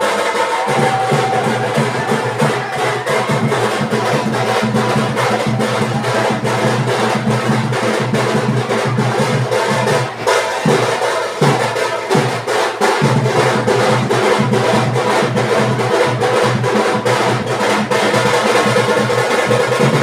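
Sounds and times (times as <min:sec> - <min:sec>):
drums beating fast rhythm: 0:00.0 - 0:20.0.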